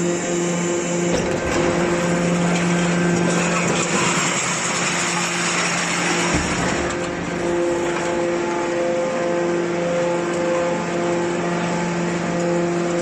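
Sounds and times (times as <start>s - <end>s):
hydraulic baler humming: 0.0s - 13.0s.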